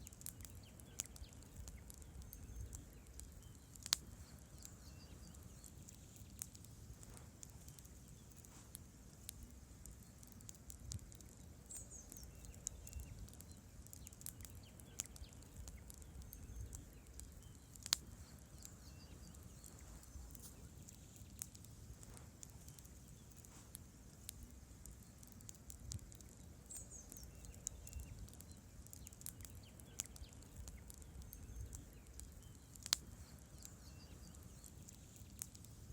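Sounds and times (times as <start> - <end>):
logs crackling and popping: 0.0 - 35.9
low rumble of flames: 0.0 - 35.9.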